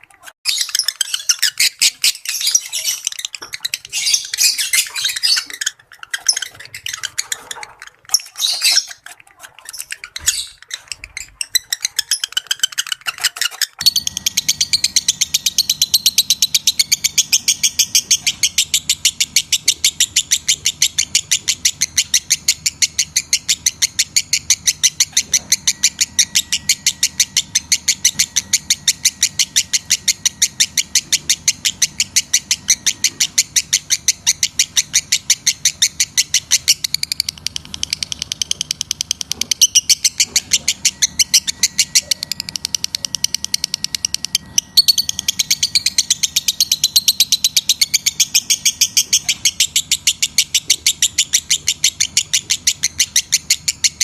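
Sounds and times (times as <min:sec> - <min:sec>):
lovebird shrill chirping: 0:00.1 - 0:54.0.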